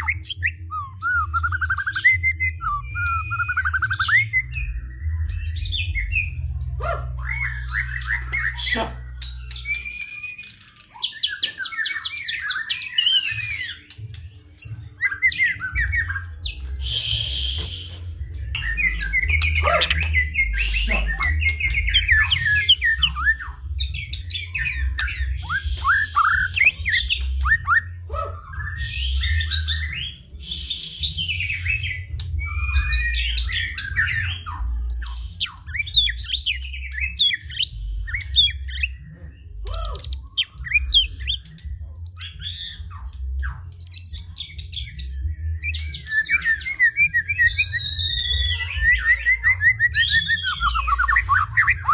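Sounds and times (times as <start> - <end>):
bird singing varied whistles: 0.0 - 6.3, 7.2 - 13.9, 14.6 - 39.0, 39.6 - 51.9.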